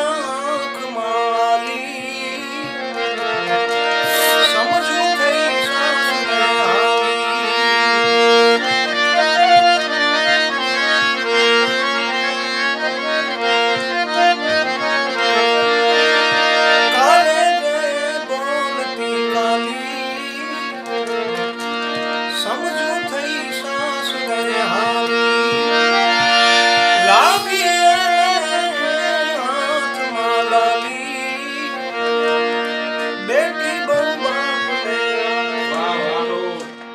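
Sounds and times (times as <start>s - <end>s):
harmonium drone: 0.0s - 36.9s
harmonium melody: 0.0s - 36.9s.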